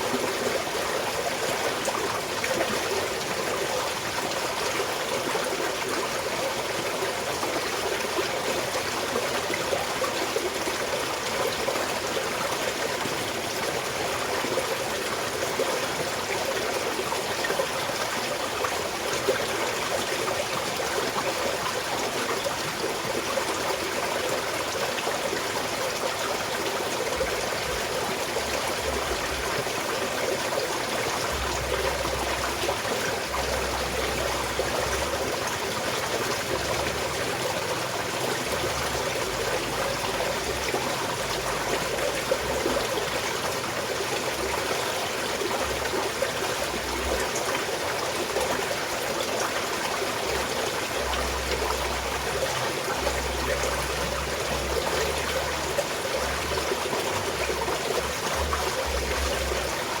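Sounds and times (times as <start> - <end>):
stream water over rocks: 0.0 - 60.0.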